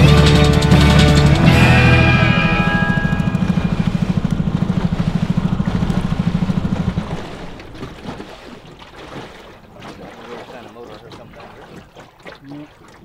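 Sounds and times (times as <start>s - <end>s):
outboard motor throbbing: 0.0s - 13.0s
faint water sounds: 1.6s - 13.0s.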